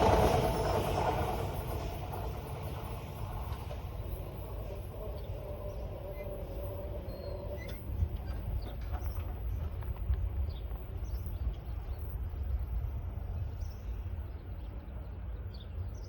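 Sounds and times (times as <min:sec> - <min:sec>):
low outdoor rumble: 0:00.0 - 0:16.0
small birds chirping: 0:02.2 - 0:16.0.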